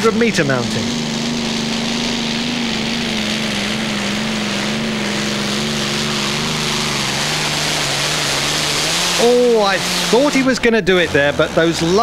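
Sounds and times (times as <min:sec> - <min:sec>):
tractor engine under heavy load: 0:00.0 - 0:12.0.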